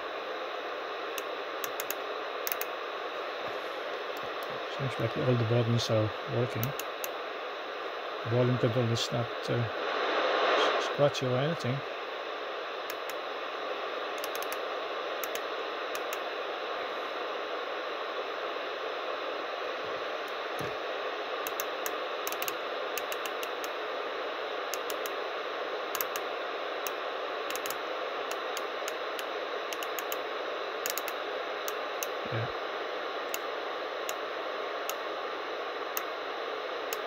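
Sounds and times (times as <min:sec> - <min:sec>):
radio receiver hiss: 0:00.0 - 0:37.0.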